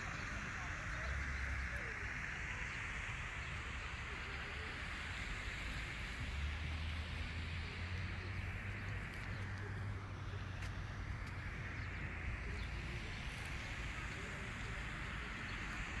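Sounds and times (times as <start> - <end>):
faint voices: 0.0 - 16.0.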